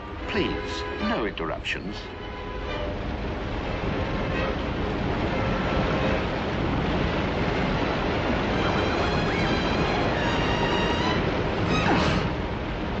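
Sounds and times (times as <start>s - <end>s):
waterfall rushing water: 0.0s - 13.0s.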